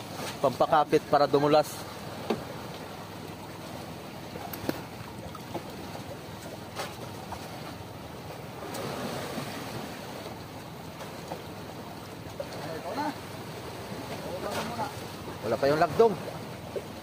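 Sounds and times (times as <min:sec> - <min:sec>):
sea washing against boat hull: 0:00.0 - 0:17.0.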